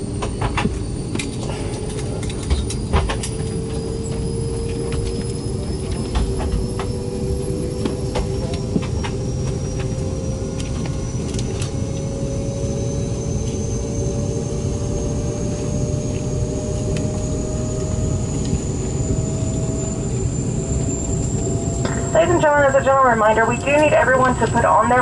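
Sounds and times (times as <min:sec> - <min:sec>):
jet engine rumble and rising whine: 0:00.0 - 0:25.0.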